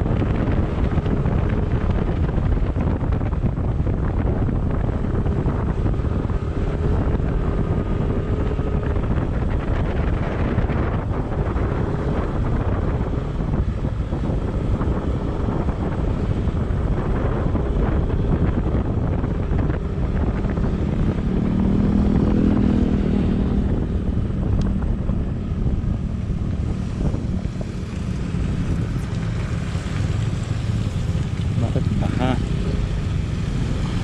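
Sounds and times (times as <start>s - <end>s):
engine hum: 0.0s - 34.0s
vehicle road noise: 0.0s - 34.0s
wind buffeting microphone: 0.0s - 34.0s.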